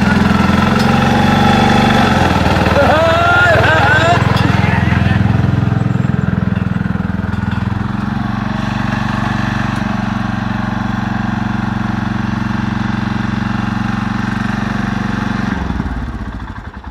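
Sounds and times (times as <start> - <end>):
riding lawnmower engine running: 0.0 - 16.9.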